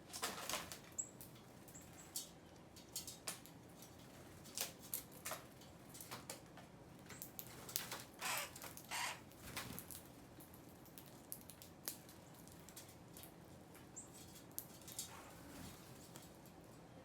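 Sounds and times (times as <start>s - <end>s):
birds pecking at seed: 0.1s - 16.9s.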